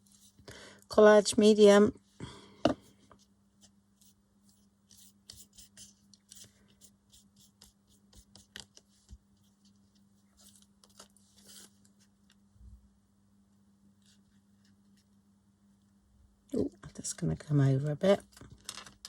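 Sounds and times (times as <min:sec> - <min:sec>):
low steady hum: 0:00.0 - 0:18.8.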